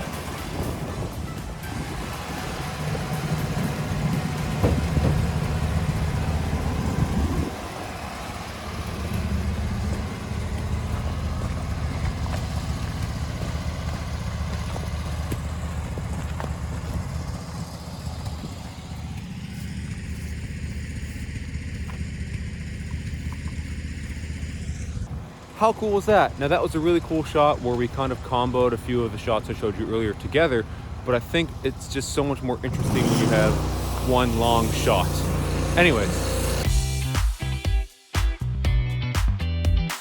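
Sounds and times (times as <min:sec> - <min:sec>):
gasoline engine running: 0:00.0 - 0:37.1.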